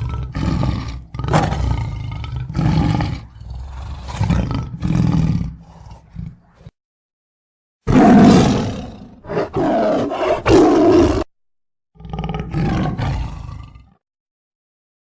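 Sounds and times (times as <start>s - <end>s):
tiger roaring: 0.0s - 6.7s, 7.9s - 11.2s, 12.0s - 14.0s.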